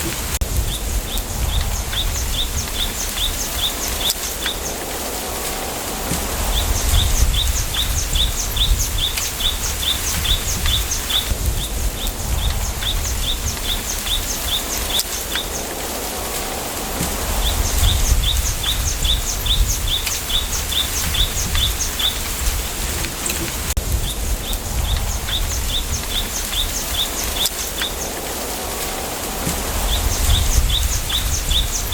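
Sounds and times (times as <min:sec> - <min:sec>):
low wind rumble: 0:00.0 - 0:31.9
bird chirping: 0:00.7 - 0:04.8, 0:06.3 - 0:15.7, 0:17.0 - 0:22.6, 0:23.2 - 0:28.5, 0:29.5 - 0:31.9.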